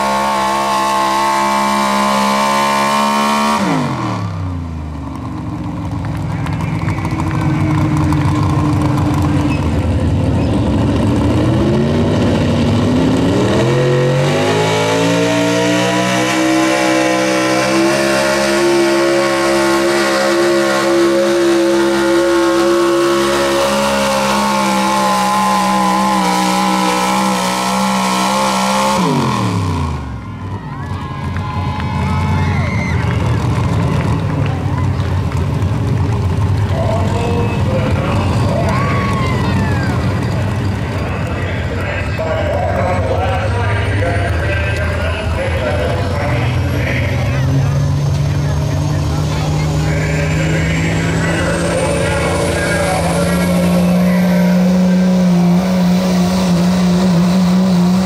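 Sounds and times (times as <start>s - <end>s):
engine running at high rpm: 0.0s - 58.0s
low engine rumble: 3.7s - 14.3s, 15.4s - 58.0s.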